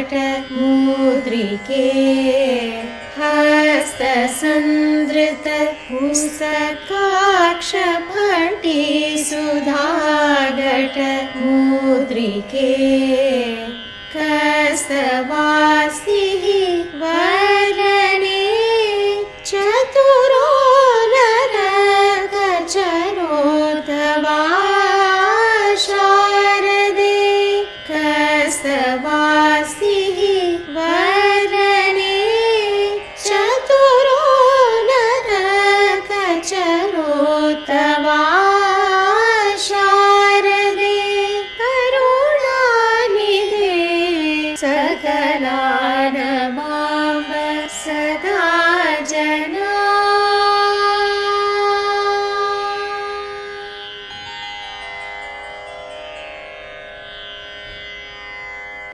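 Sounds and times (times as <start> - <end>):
women singing devotional song: 0.0 - 53.6.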